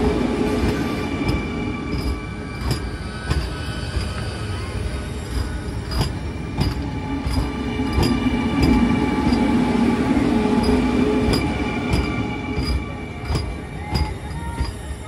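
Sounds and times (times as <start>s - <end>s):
train rumble and whine: 0.0s - 15.0s
wheels clicking over rail joints: 0.6s - 9.5s, 10.6s - 15.0s.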